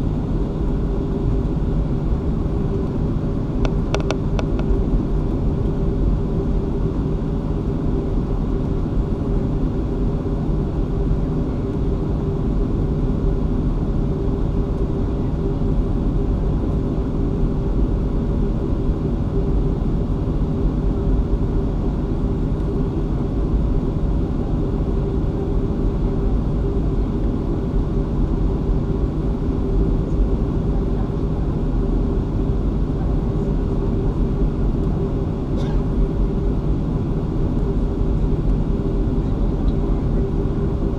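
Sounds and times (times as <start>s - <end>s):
jet engines running at taxi power: 0.0s - 40.9s.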